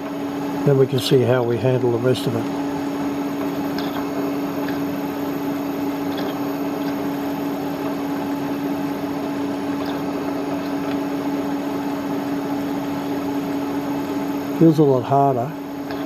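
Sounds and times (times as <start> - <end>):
milling machine humming: 0.0 - 16.0.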